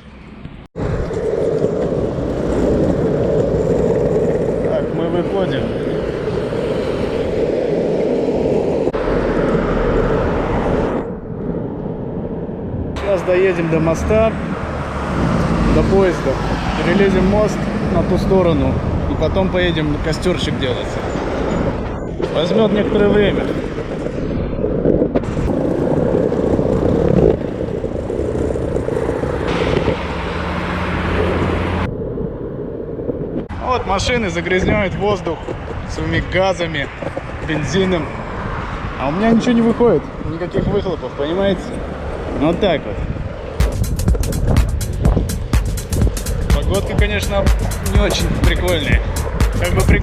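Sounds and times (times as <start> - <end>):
skateboard wheels rolling on pavement: 0.0 - 50.0.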